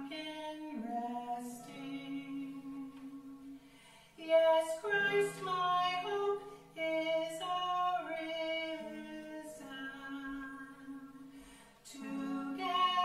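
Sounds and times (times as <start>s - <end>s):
woman singing slow melody: 0.0s - 13.0s.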